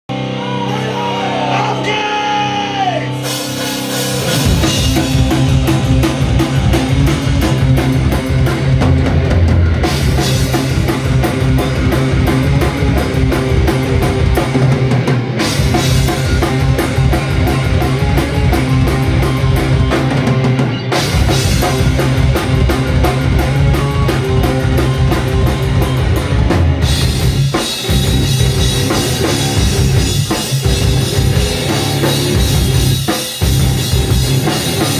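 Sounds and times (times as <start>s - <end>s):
heavy rock band playing: 0.1s - 34.9s
busy drumming: 1.8s - 34.9s.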